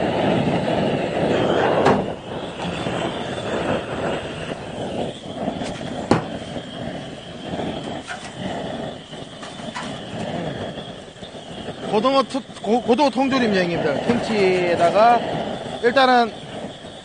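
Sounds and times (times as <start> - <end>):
butane torch hissing: 0.0 - 17.0.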